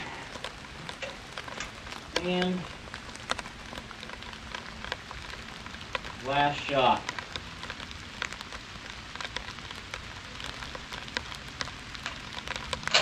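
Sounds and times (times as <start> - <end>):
light rain hiss: 0.0 - 13.0
sharp rain ticks: 0.0 - 13.0.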